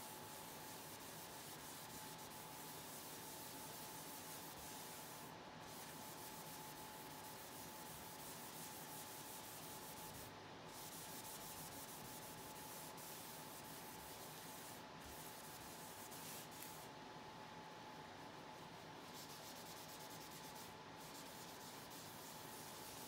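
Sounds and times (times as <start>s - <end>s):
faint steady hum: 0.0s - 23.0s
pad scrubbing on paper: 0.1s - 16.9s, 19.0s - 23.0s.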